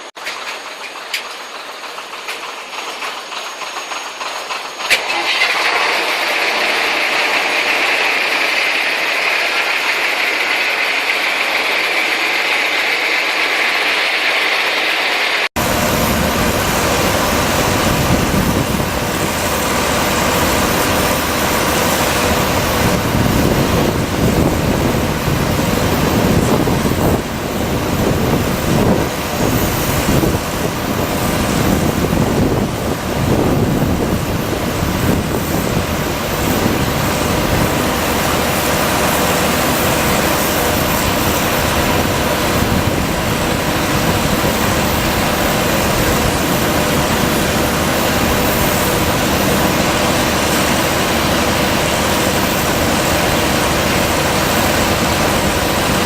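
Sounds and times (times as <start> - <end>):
fog cannon fan rushing: 0.0 - 56.0.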